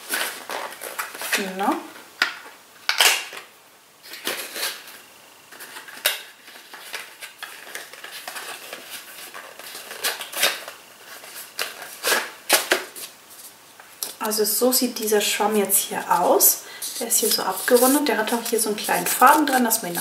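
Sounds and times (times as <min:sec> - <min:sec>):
cardboard packaging rustling: 0:00.0 - 0:20.0.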